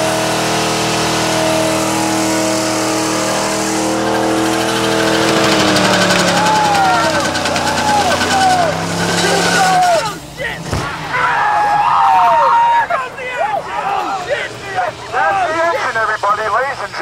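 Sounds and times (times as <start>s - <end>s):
car engine revving: 0.0s - 17.0s
tyres spinning on pavement: 0.0s - 17.0s.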